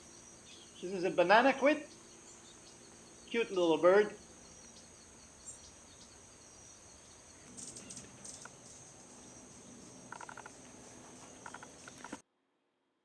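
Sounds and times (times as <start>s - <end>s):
bird chirps: 0.0s - 12.2s
high-pitched insect drone: 0.0s - 12.2s.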